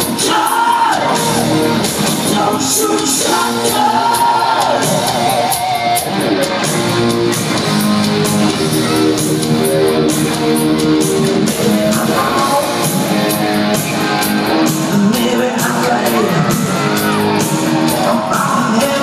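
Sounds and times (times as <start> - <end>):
bass guitar: 0.0 - 19.0
drums: 0.0 - 19.0
electric guitars playing chords: 0.0 - 19.0.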